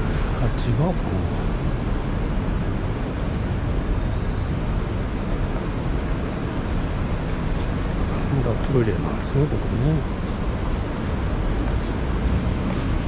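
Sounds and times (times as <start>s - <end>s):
rumble of traffic: 0.0s - 13.0s.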